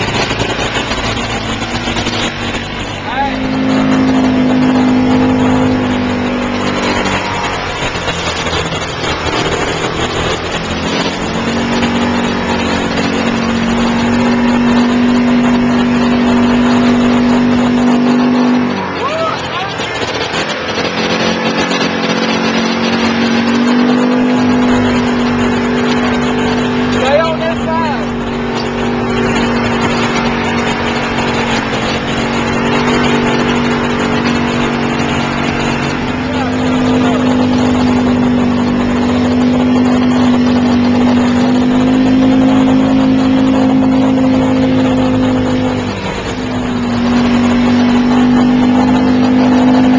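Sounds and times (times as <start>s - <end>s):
off-road engine running under load: 0.0s - 49.9s
water splashing: 0.0s - 49.9s.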